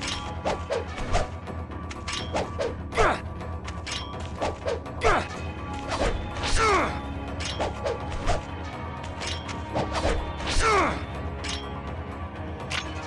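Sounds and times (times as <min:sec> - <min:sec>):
metallic sword strikes and swishes: 0:00.0 - 0:03.2, 0:03.8 - 0:11.7.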